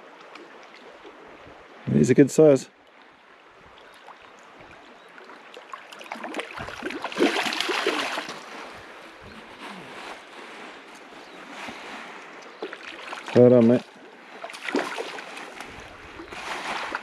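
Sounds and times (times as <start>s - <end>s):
river water splashing: 0.0s - 1.9s, 2.7s - 17.0s
river flowing: 0.0s - 17.0s.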